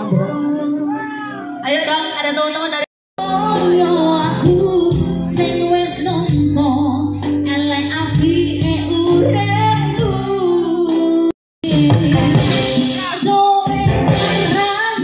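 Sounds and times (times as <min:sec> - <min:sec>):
live band with keyboard and guitar: 0:00.0 - 0:02.3, 0:03.2 - 0:15.0
woman singing into a microphone: 0:01.4 - 0:15.0.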